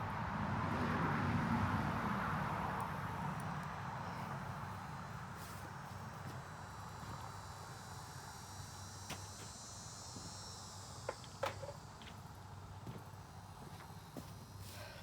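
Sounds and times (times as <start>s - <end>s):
insects chirring: 2.8s - 15.0s.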